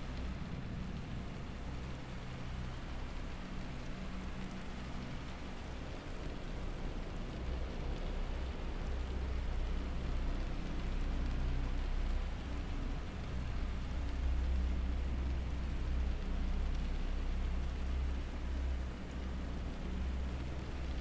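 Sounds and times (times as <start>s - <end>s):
rain-like noise: 0.0s - 21.0s.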